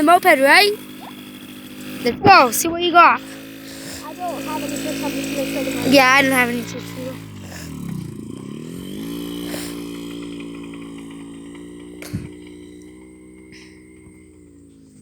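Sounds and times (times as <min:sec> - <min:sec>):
moped engine pulling away: 0:00.0 - 0:15.0.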